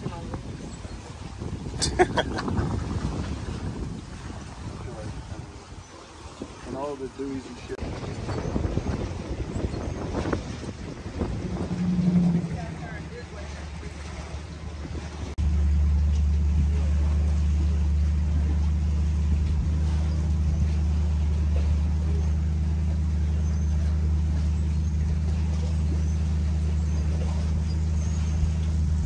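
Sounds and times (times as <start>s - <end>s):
engine droning: 3.7s - 29.0s.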